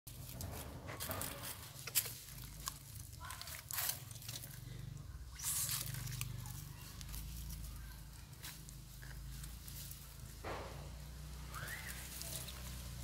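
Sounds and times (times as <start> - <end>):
dry leaves rustling and crackling: 0.1 - 13.0.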